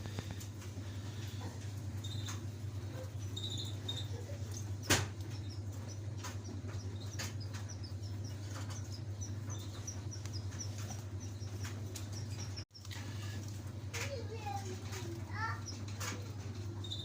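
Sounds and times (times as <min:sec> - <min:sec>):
steady low hum: 0:00.0 - 0:17.0
canary chirping: 0:00.9 - 0:13.4, 0:14.1 - 0:17.0.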